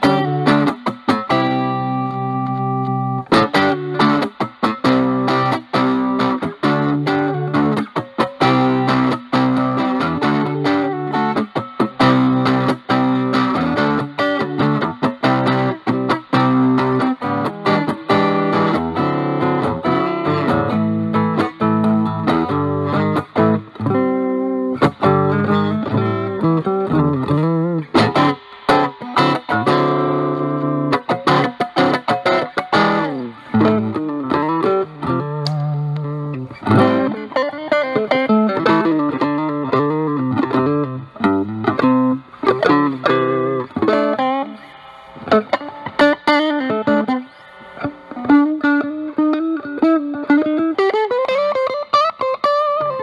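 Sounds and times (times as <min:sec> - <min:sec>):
electric guitar with fuzz: 0:00.0 - 0:53.0.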